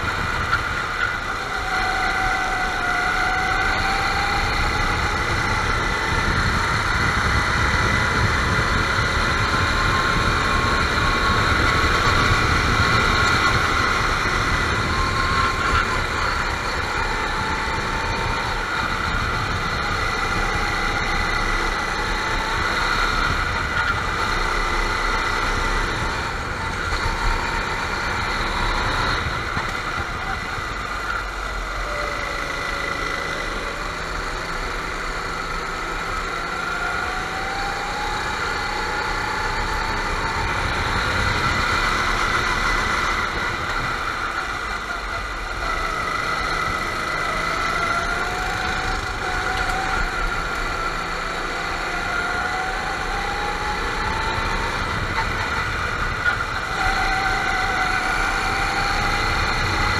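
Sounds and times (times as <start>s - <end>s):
go-kart engines running: 0.0s - 59.9s.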